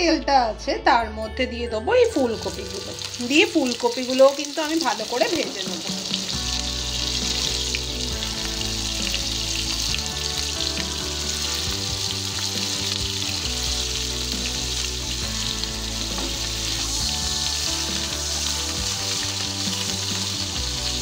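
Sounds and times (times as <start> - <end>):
vegetables sizzling in oil: 2.3 - 21.0.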